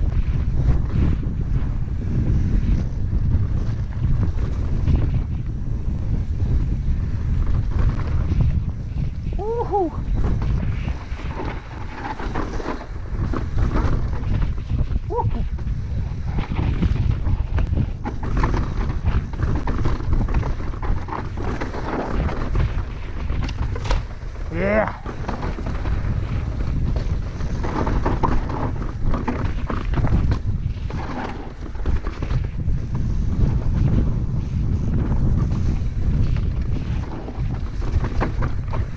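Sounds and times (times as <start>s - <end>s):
bike rattling down rocky trail: 0.0s - 38.9s
wind buffeting microphone: 0.0s - 38.9s.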